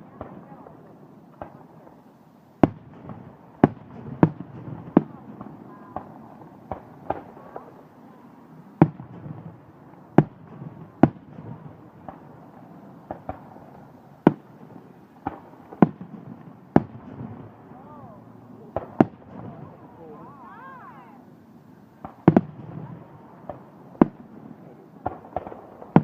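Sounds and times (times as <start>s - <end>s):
distant fireworks rumble: 0.0s - 26.0s
fireworks bangs: 0.0s - 26.0s.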